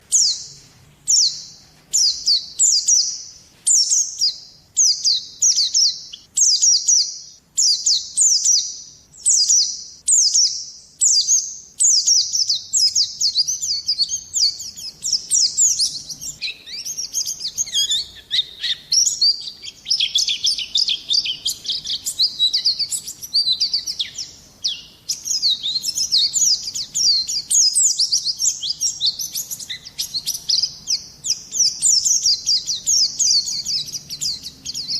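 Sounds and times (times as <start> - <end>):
bird twittering song: 0.0 - 34.9.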